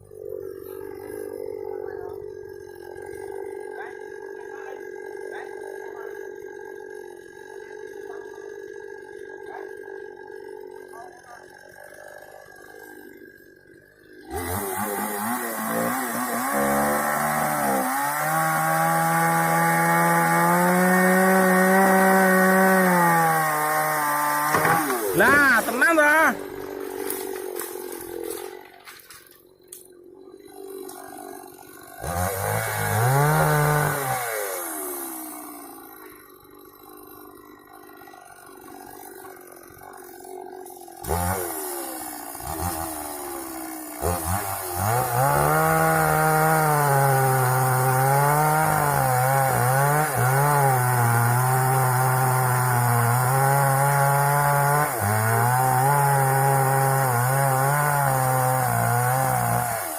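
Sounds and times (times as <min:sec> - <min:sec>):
chainsaw revving and sawing wood: 0:00.0 - 0:59.9.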